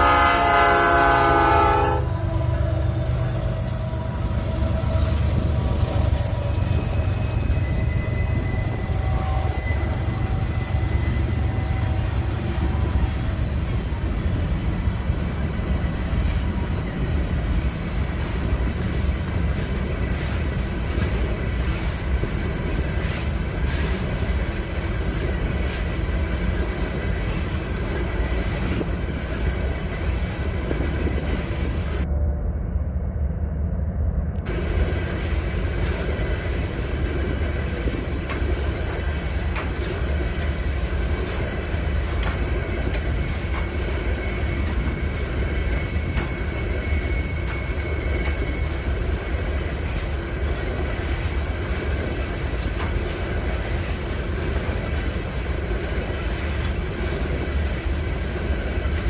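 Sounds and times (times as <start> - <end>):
rail yard rumble: 0.0 - 59.0.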